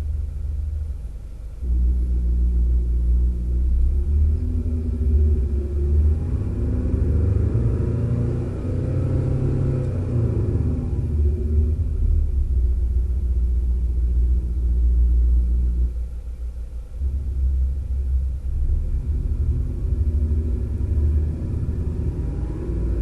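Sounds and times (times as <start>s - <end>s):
deep engine rumble from cabin: 0.0s - 23.0s.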